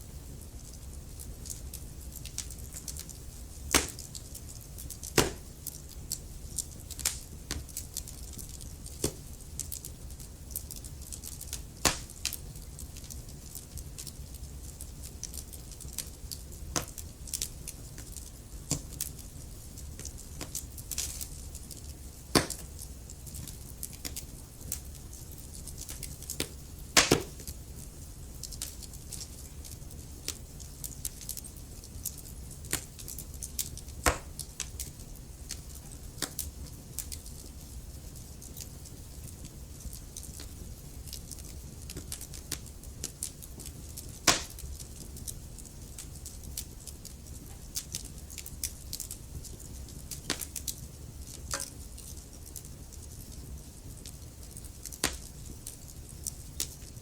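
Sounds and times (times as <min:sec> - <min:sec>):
burning wood crackling: 0:00.0 - 0:57.0
fireplace fire rumbling: 0:00.0 - 0:57.0.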